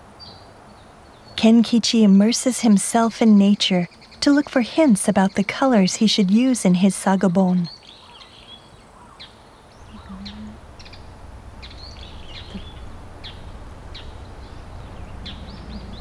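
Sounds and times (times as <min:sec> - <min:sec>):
birds chirping: 0:00.2 - 0:16.0
low steady rumble: 0:01.2 - 0:07.7, 0:09.6 - 0:16.0.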